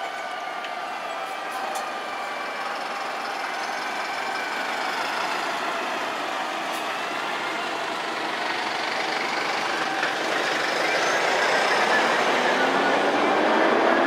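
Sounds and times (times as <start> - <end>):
street traffic: 0.0 - 14.0
heavy trucks idling: 1.1 - 13.2.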